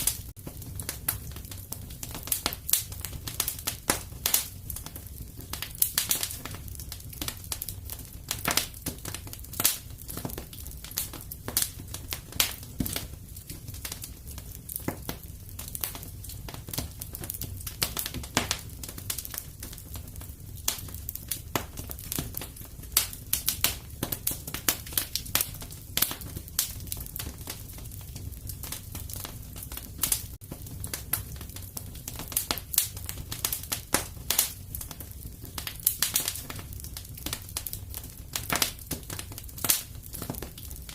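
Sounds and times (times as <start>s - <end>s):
fireplace fire crackling: 0.0s - 40.9s.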